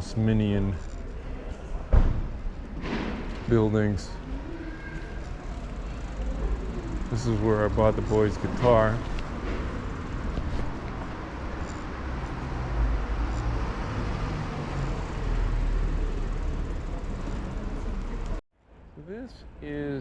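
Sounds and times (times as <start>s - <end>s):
city traffic noise: 0.0s - 20.0s.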